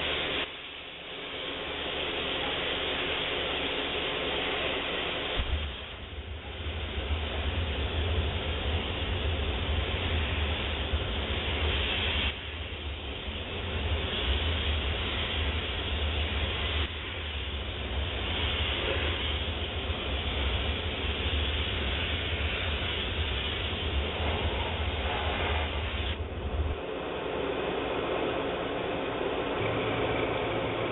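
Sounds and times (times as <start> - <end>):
steam cleaner low hum: 0.0 - 30.9
steam hissing: 0.0 - 30.9.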